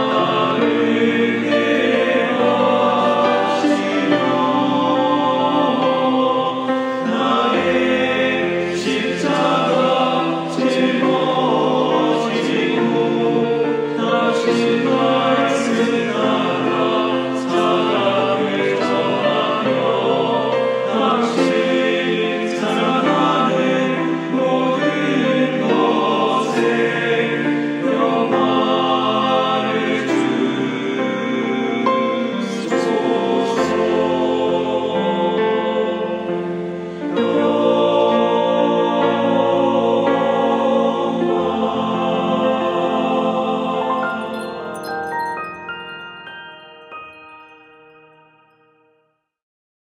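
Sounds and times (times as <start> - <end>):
male choir singing a hymn: 0.0 - 44.6.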